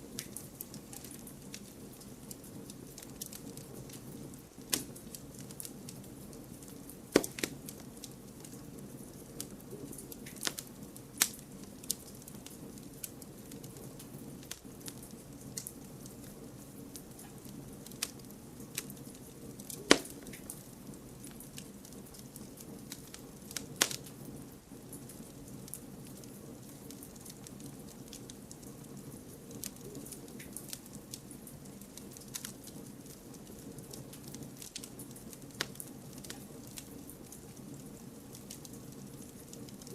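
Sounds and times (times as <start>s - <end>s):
campfire flames rustling: 0.0s - 39.9s
wood crackling and popping: 0.0s - 39.9s.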